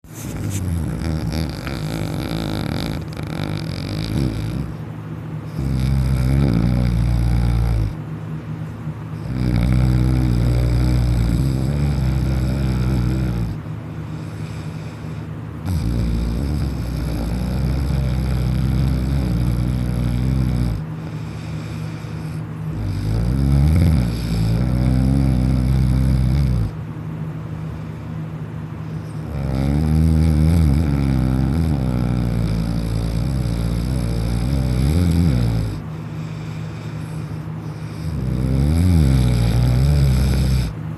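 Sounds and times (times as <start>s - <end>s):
person snoring heavily: 0.1s - 8.0s, 9.2s - 26.8s, 28.8s - 40.8s
quiet breaths: 0.1s - 29.3s, 30.8s - 40.9s.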